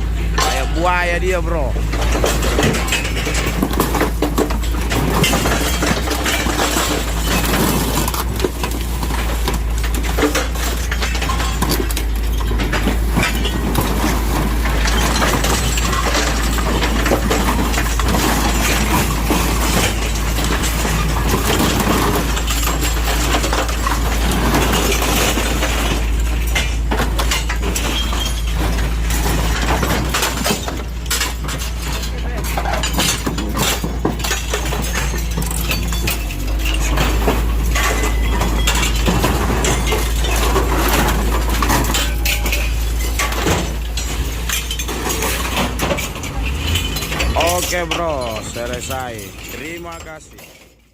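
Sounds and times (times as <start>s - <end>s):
excavator engine hum: 0.0s - 49.4s
glass breaking: 0.0s - 50.9s
sheet metal crunching: 0.0s - 50.9s.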